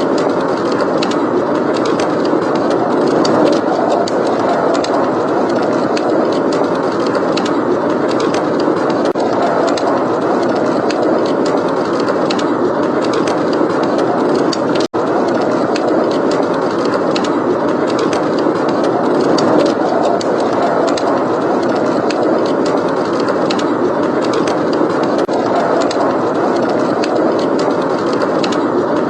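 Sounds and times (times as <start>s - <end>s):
blizzard wind: 0.0s - 29.0s
wood fire crackling: 0.0s - 29.0s.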